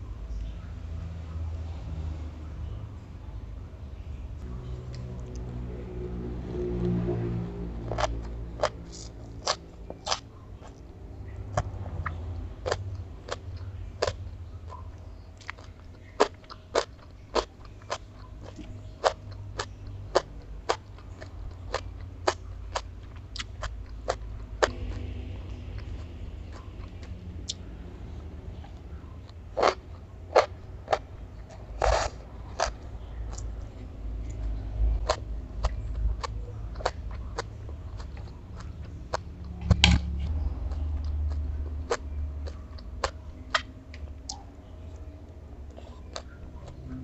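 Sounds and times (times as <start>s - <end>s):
crunchy chewing: 4.4s - 47.0s.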